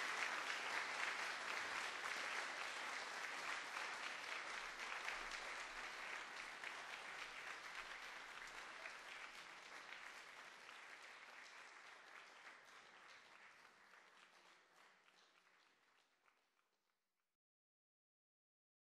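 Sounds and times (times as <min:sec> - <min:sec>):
audience applause: 0:00.0 - 0:16.4.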